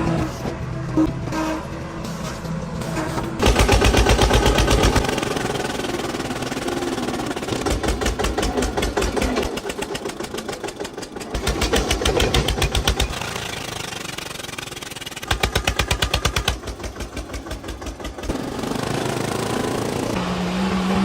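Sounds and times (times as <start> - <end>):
tractor diesel engine chugging: 0.0 - 20.2.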